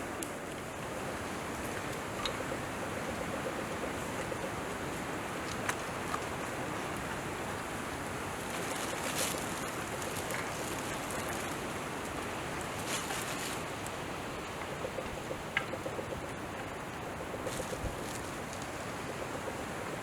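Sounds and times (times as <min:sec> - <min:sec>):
flowing water: 0:00.0 - 0:20.0.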